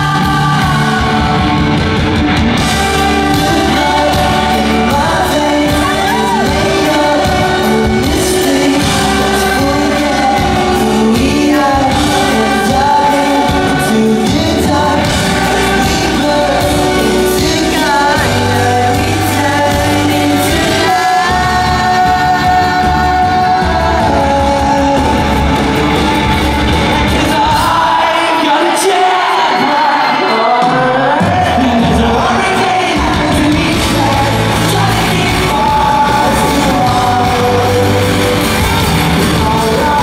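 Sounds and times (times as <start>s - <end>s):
bass guitar: 0.0s - 28.0s, 31.2s - 40.0s
drums: 0.0s - 40.0s
electric guitar: 0.0s - 40.0s
man singing: 0.0s - 40.0s.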